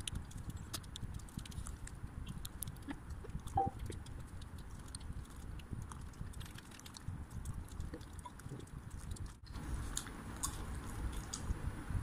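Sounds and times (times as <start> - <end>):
wet chewing: 0.0 - 11.6.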